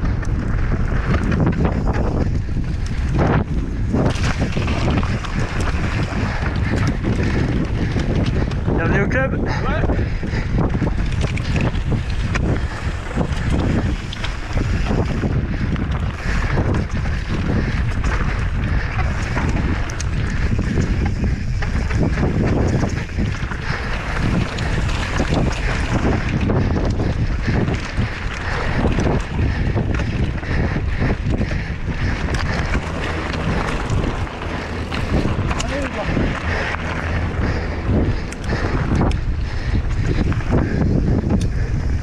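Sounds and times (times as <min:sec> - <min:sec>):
bike knocks and rattles: 0:00.0 - 0:08.8, 0:10.3 - 0:41.9
wind buffeting microphone: 0:00.0 - 0:42.0.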